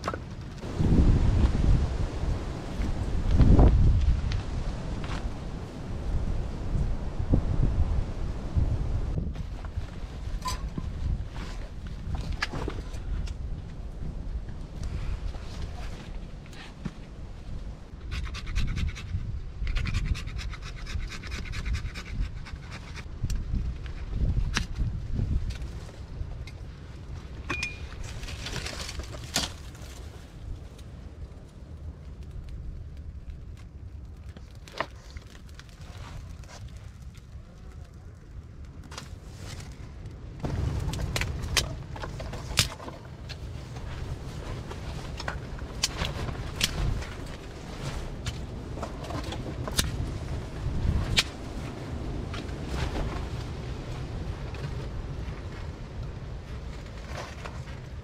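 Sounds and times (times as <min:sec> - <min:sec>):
fire crackling and popping: 0:00.0 - 0:58.0
wind rumble on microphone: 0:00.0 - 0:58.0.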